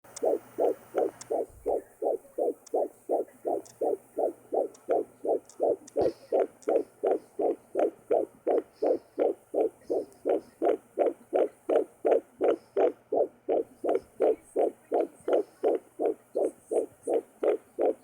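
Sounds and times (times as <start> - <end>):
fetal heartbeat on doppler: 0.0 - 18.0.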